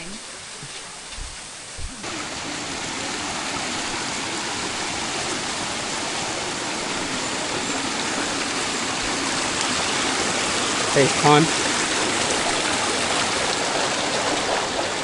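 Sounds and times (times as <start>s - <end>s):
water rushing over rocks: 1.6s - 15.0s.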